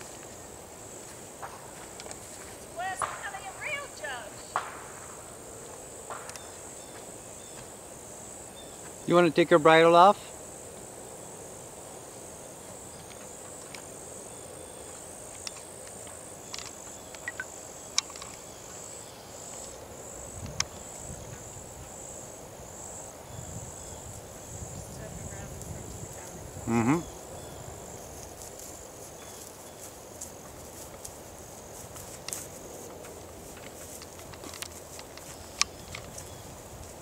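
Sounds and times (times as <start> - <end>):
insects buzzing: 0.0 - 37.0.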